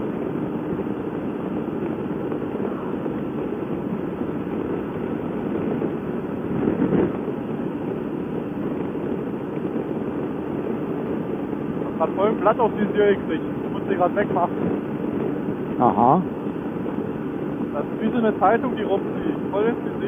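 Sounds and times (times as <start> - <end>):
motorcycle engine: 0.0 - 20.0
wind rumble: 0.0 - 20.0.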